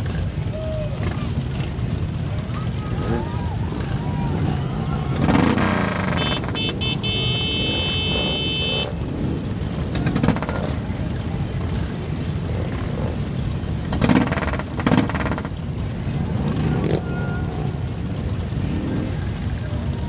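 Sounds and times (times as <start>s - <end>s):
motorcycles idling: 0.0s - 20.0s.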